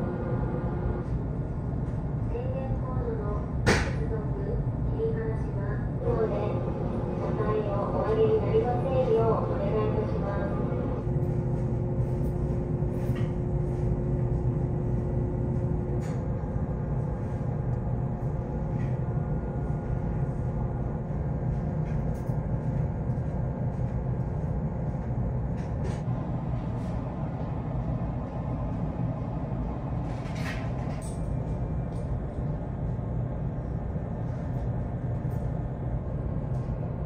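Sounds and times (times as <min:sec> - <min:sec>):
faint higher hum: 0:00.0 - 0:37.0
ship engine drone: 0:00.0 - 0:37.0.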